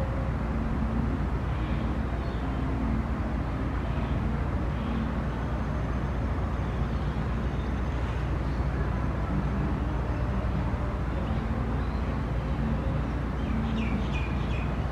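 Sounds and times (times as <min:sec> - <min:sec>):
low outdoor rumble: 0:00.0 - 0:14.9.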